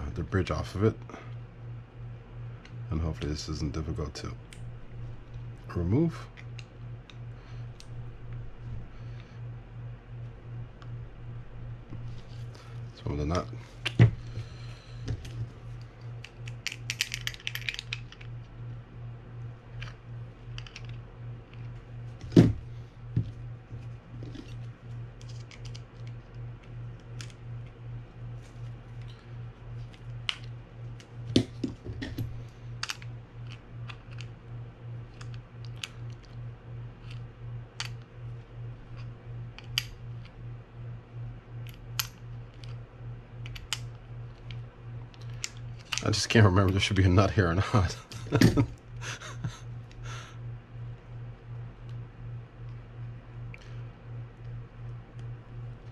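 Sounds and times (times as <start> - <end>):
pulsing low hum: 0.0 - 55.9.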